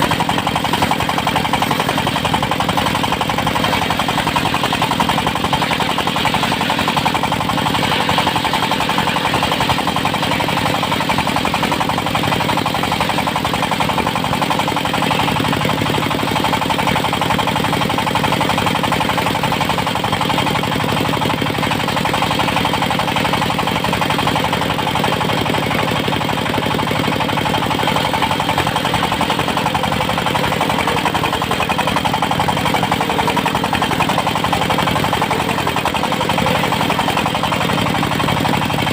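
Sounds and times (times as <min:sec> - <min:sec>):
sawmill engine chugging: 0:00.0 - 0:38.9.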